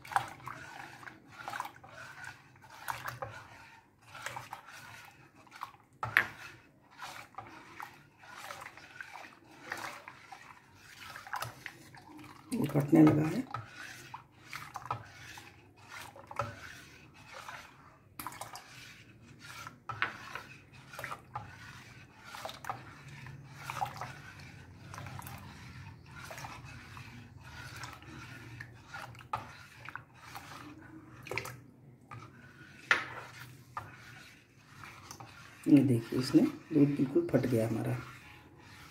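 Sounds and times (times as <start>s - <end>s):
ladle stirring milk in pan: 0.0s - 38.9s.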